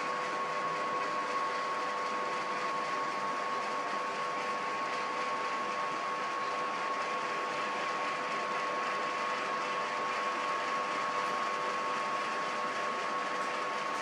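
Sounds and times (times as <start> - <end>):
machine humming with high whine: 0.0 - 14.0.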